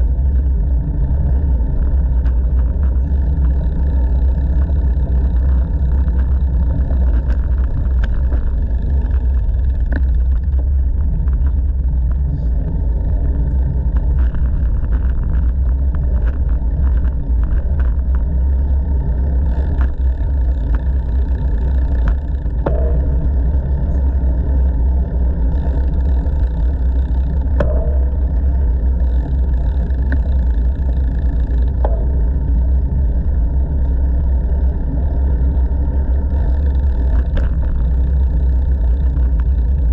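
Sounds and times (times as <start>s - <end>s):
bicycle clicks and knocks: 0.0s - 39.9s
bicycle tyres rolling on asphalt: 0.0s - 39.9s.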